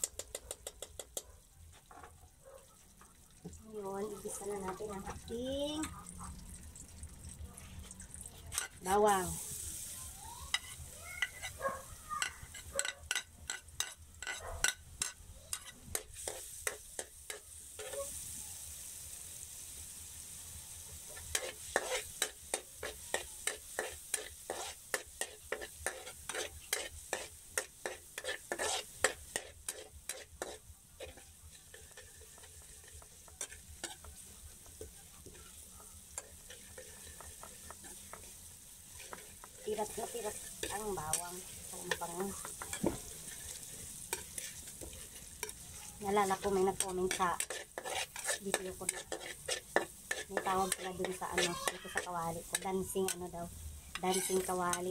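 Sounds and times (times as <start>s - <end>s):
garlic sizzling in hot oil: 0.0s - 54.9s
metal spatula scraping a wok: 7.6s - 11.6s, 12.2s - 18.2s, 21.0s - 54.9s.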